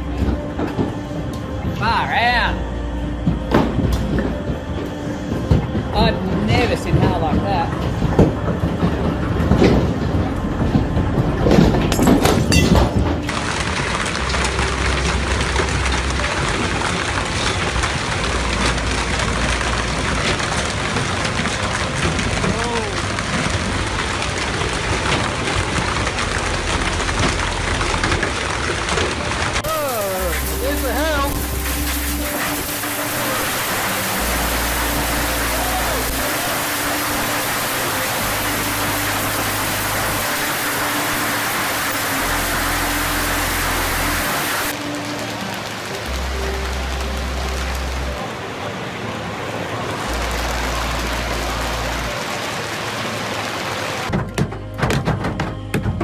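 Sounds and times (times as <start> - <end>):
heavy rain hissing: 0.0 - 11.4, 13.3 - 54.1.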